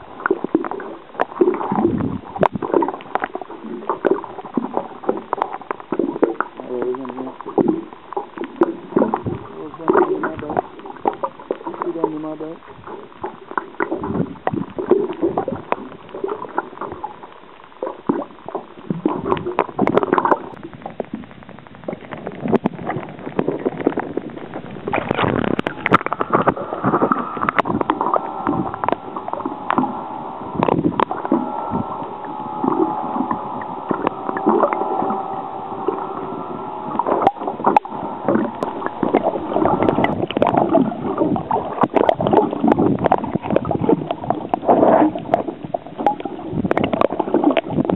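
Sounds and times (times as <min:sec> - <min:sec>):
steady hum: 0:00.0 - 0:47.9
water sloshing and gurgling: 0:00.0 - 0:47.9.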